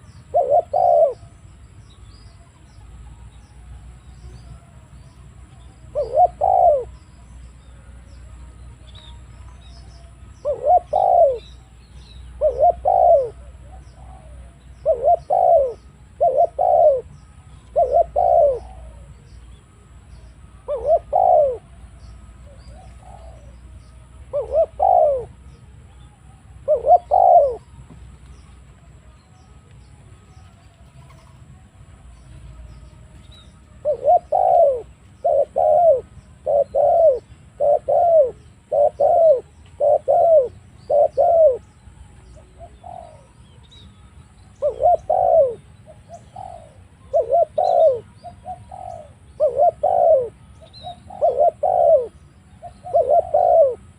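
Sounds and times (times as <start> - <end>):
doves cooing: 0.0 - 8.6, 9.2 - 25.6, 26.4 - 28.9, 30.1 - 43.6, 44.5 - 53.9.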